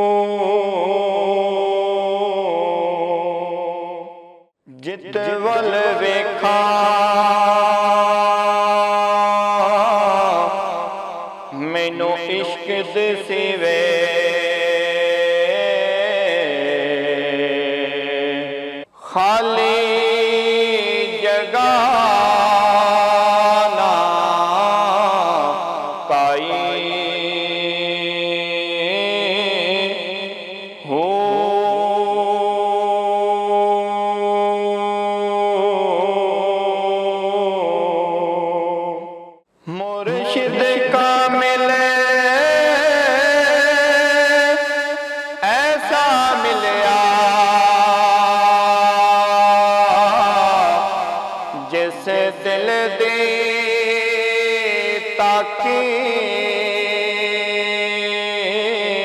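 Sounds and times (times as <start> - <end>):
chanted vocal drone: 0.0 - 4.5, 5.1 - 59.0
man singing devotional song: 0.0 - 59.0.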